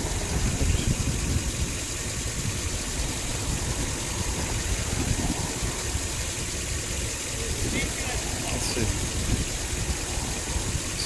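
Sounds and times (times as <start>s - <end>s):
engine idling rough: 0.0s - 11.0s.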